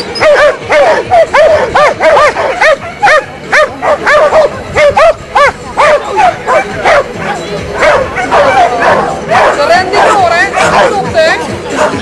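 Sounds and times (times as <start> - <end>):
dog yipping rapidly: 0.1 - 11.1.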